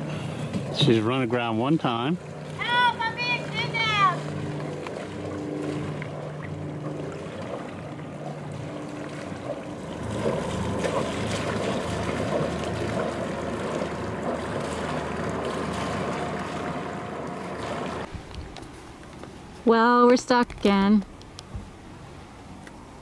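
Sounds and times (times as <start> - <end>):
boat motor running: 0.0 - 23.0
water noise: 0.0 - 23.0
wind: 0.0 - 23.0.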